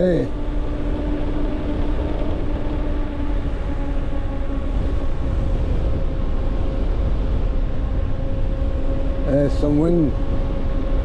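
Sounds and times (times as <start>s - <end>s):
electric motor whine: 0.0s - 11.0s
wind rumbling on microphone: 0.0s - 11.0s.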